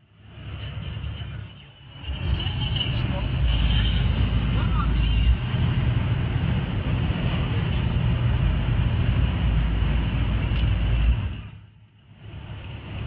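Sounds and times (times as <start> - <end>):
car engine drone: 0.0 - 13.0
road and wind noise: 0.0 - 13.0.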